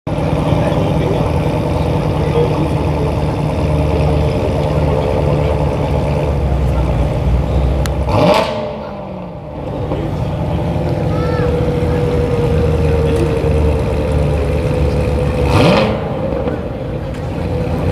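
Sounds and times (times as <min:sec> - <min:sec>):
car engine idling and revving: 0:00.1 - 0:17.9.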